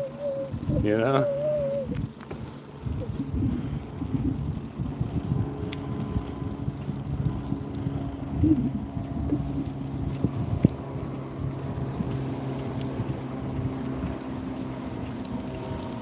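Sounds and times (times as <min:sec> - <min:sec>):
bicycle tyre rumble: 0:00.0 - 0:16.0
steady low hum: 0:00.0 - 0:16.0
wind buffeting microphone: 0:00.0 - 0:16.0.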